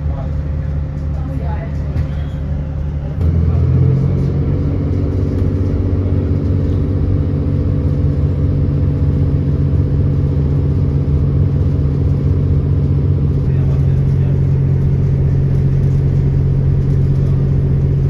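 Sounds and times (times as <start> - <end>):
diesel train engine droning: 0.0 - 18.0.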